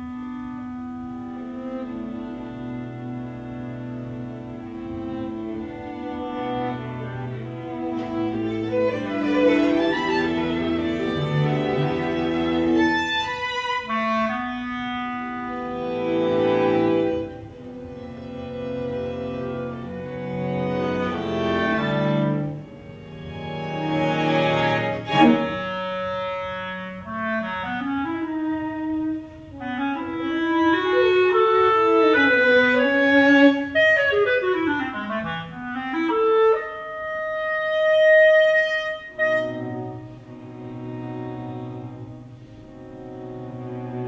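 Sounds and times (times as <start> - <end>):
clarinet melody: 0.0 - 44.0
string quartet accompaniment: 0.0 - 44.0.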